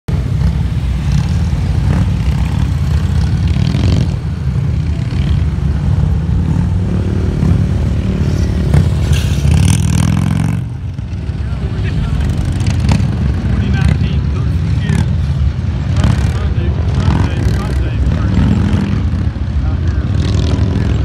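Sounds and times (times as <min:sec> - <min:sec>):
motorcycles running at low revs: 0:00.1 - 0:21.0.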